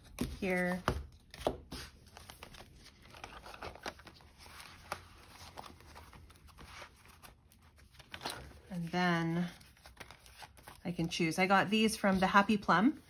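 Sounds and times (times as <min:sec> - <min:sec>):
paper rustling: 0:00.0 - 0:11.1.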